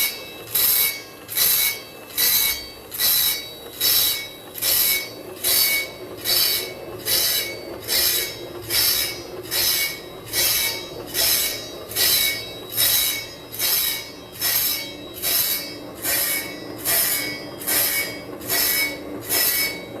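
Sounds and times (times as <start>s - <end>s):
saw blade grinding rasp: 0.0s - 20.0s.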